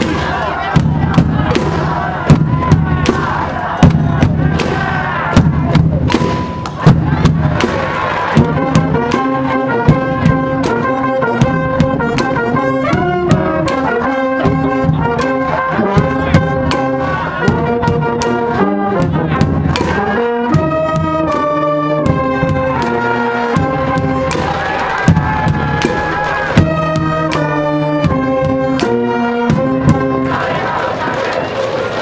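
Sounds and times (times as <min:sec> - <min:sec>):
steady drum beat: 0:00.0 - 0:21.4, 0:22.0 - 0:31.4
trumpets and trombones melody: 0:01.4 - 0:32.0.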